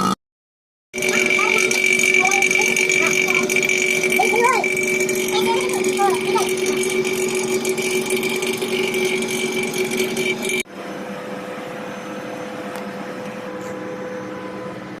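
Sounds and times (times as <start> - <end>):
machine electric hum: 1.0 - 15.0.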